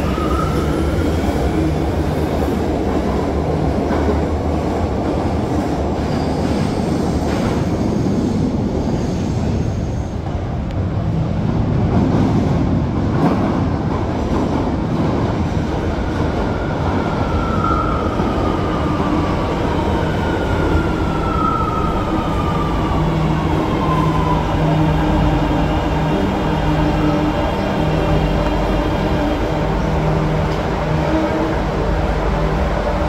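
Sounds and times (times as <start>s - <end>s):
subway train running: 0.0s - 33.0s.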